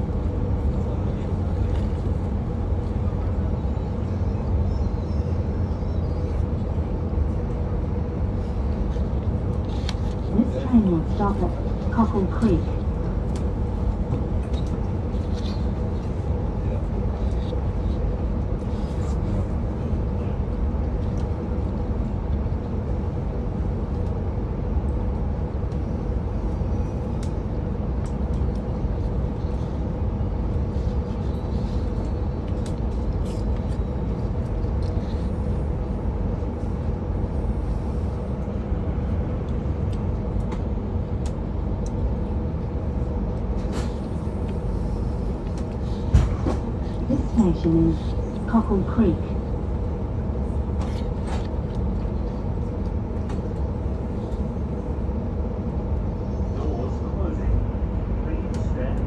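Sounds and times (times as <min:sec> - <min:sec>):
faint hum: 0:00.0 - 0:59.0.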